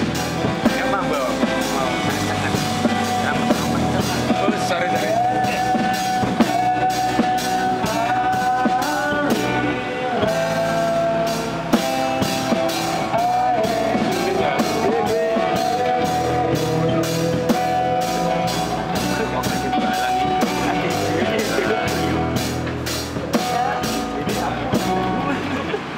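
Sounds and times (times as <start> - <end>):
acoustic guitars strumming: 0.0 - 25.9
bending melody line: 0.0 - 25.9.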